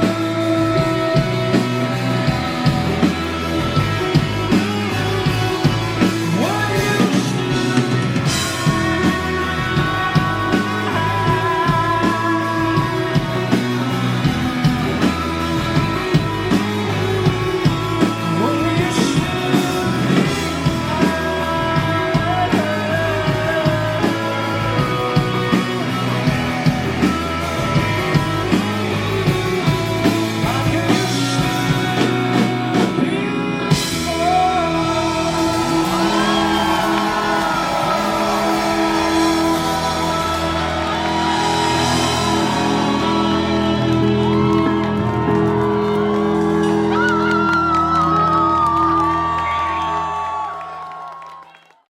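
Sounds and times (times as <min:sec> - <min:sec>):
drums keeping beat: 0:00.0 - 0:50.7
rock band playing live: 0:00.0 - 0:51.2
person singing: 0:00.0 - 0:51.6.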